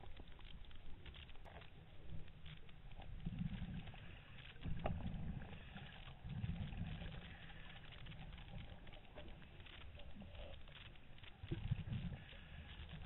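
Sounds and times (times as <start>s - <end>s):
faint clicks: 0.0s - 13.0s
low underwater rumbling swells: 0.0s - 13.0s.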